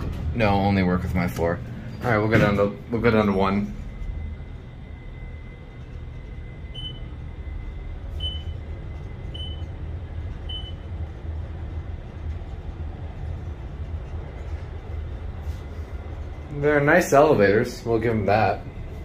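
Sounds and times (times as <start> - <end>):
elevator low rumble: 0.0 - 19.0.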